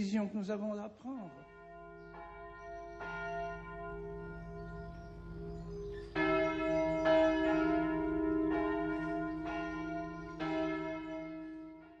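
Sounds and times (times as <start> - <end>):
church bells ringing: 1.2 - 12.0.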